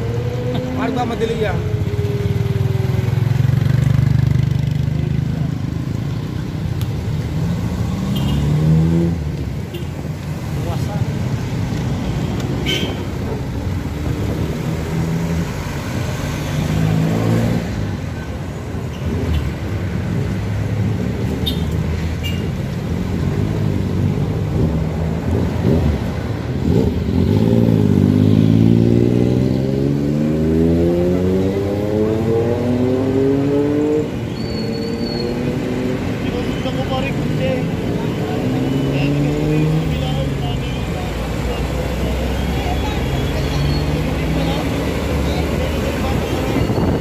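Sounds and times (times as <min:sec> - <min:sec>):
vehicle accelerating: 0:00.0 - 0:09.6, 0:10.3 - 0:18.0, 0:22.7 - 0:36.5, 0:37.1 - 0:47.0
road traffic passing: 0:00.0 - 0:47.0.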